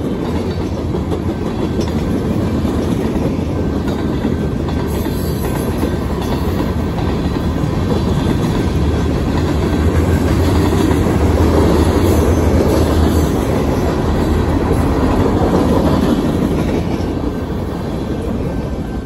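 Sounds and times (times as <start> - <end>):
freight train rolling past: 0.0 - 19.0
train wheel clatter: 0.0 - 19.0.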